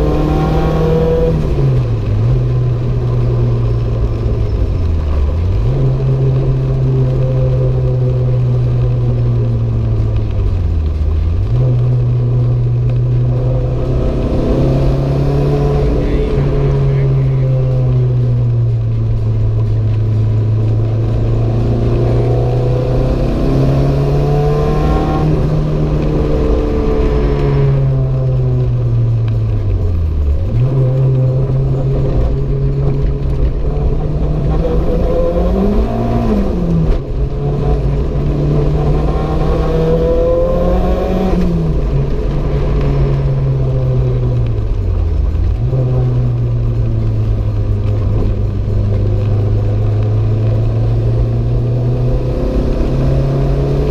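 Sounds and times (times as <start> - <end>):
car engine running hard: 0.0 - 53.9.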